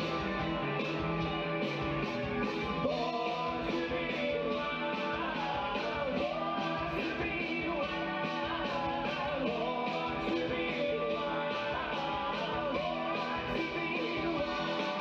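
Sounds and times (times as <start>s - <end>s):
rock and roll band playing: 0.0s - 15.0s
men singing: 2.8s - 15.0s.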